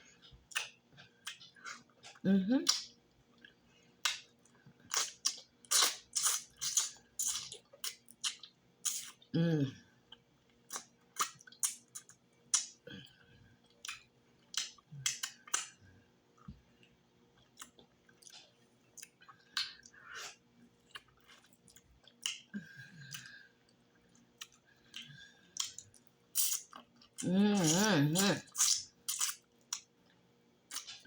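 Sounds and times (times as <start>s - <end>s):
person chewing with mouth clicks: 0.2s - 9.3s, 10.1s - 15.8s, 16.4s - 22.5s, 23.1s - 29.9s, 30.7s - 31.0s.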